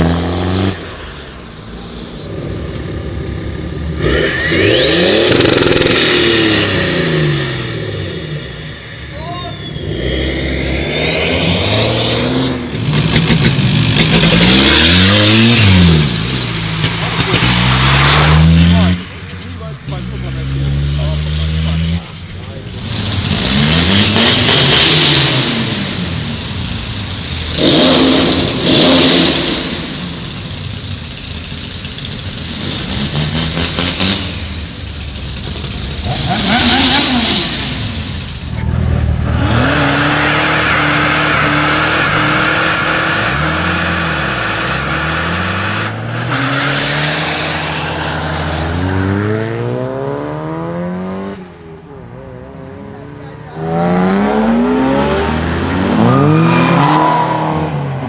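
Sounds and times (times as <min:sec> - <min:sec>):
diesel car engines revving: 0:00.0 - 0:58.0.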